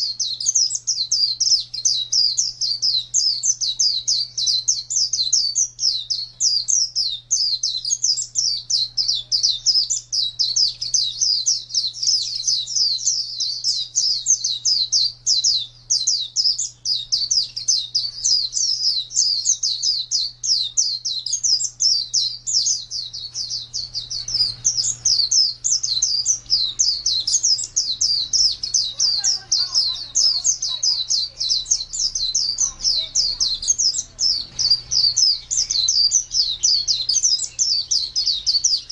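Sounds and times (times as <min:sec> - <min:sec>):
bird twittering song: 0:00.0 - 0:38.9
steady low hum: 0:00.0 - 0:38.9.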